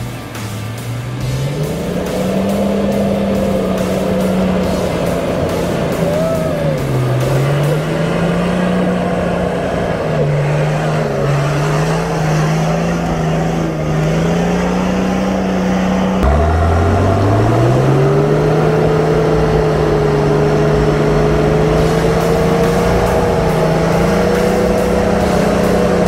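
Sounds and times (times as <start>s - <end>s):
vehicle engine working under load: 0.0s - 26.0s.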